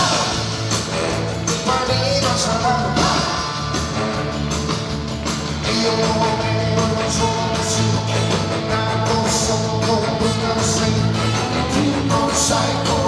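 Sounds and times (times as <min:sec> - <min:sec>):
bass: 0:00.0 - 0:13.0
drums: 0:00.0 - 0:13.0
guitars: 0:00.0 - 0:13.0.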